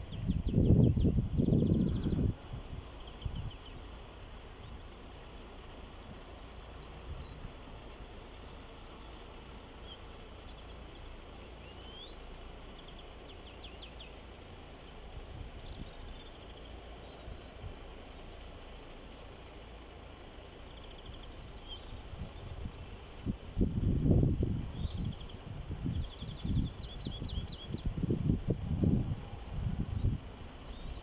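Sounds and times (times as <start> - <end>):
small birds chirping: 0.0 - 31.0
steady low rumble: 0.0 - 31.0.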